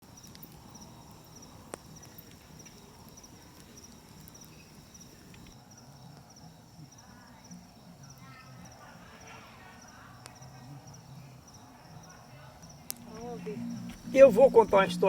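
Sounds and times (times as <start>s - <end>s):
campfire crackling: 0.0s - 15.0s
night insects trilling: 0.0s - 15.0s.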